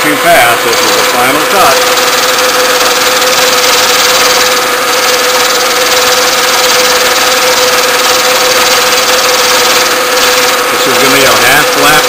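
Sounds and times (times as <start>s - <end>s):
milling machine cutting metal: 0.0s - 12.0s.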